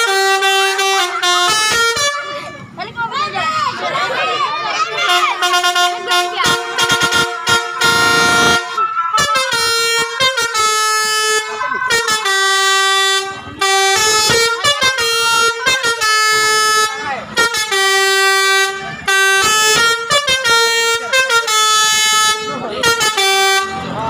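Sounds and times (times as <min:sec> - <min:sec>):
musical air horn tune: 0:00.0 - 0:02.6, 0:05.0 - 0:23.9.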